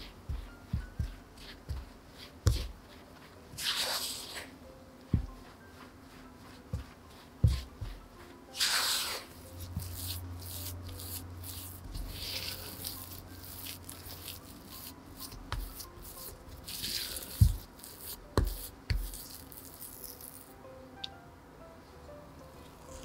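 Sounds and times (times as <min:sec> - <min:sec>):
spatula scraping dough in bowl: 0:00.0 - 0:19.9.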